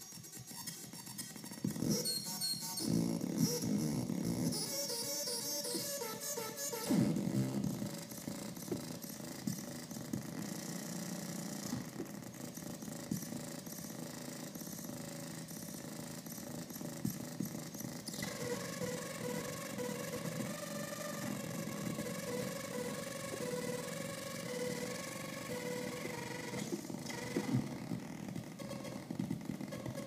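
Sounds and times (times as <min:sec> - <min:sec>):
electronic buzzing drone with crackles: 0:00.0 - 0:30.0
electronic pitched tones: 0:00.0 - 0:30.0.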